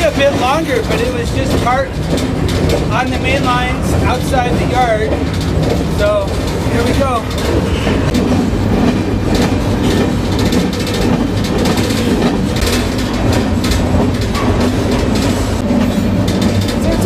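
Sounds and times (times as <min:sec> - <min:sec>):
freight car clacking and rattling: 0:00.0 - 0:17.0
train wheels rumbling on rails: 0:00.0 - 0:17.0.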